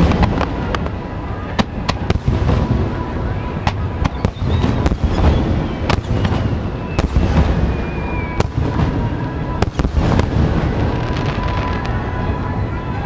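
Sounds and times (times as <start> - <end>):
distant fireworks rumble and crackle: 0.0 - 13.0.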